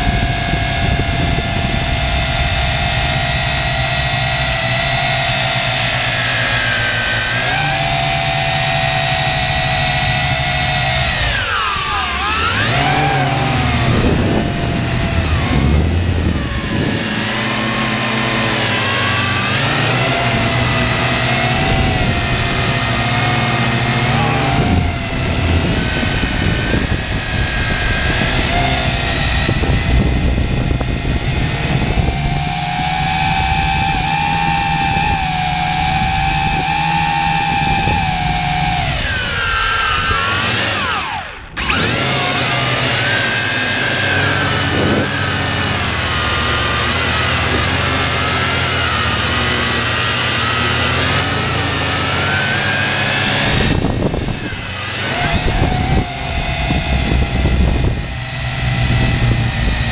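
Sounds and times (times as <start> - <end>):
drone propellers whining: 0.0 - 59.9.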